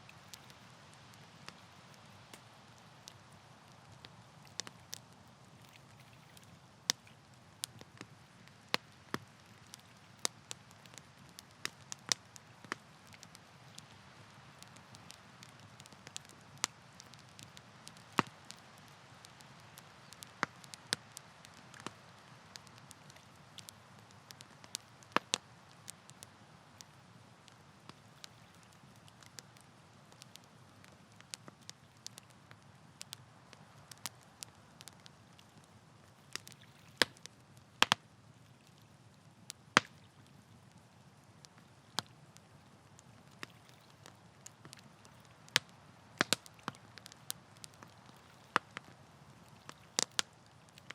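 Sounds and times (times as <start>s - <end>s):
campfire snaps and pops: 0.0s - 50.9s.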